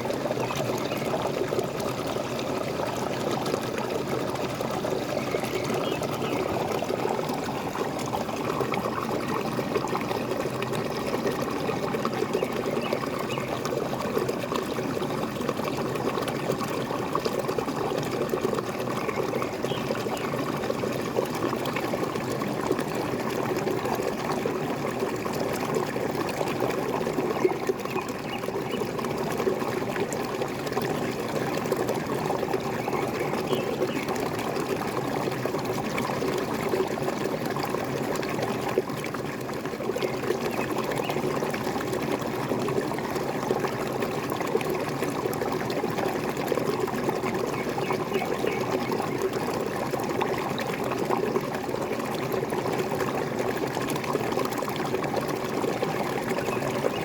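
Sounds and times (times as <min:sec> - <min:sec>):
small waterfall pouring and gurgling: 0:00.0 - 0:57.0.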